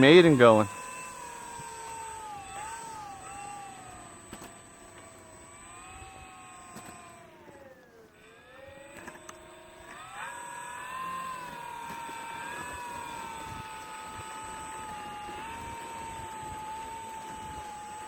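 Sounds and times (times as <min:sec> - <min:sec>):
electric motor and propeller whining: 0:00.0 - 0:18.0.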